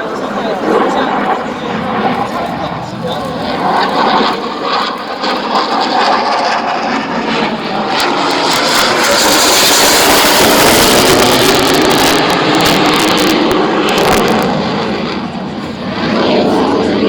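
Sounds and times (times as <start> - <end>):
fighter jet roar: 0.0 - 17.0.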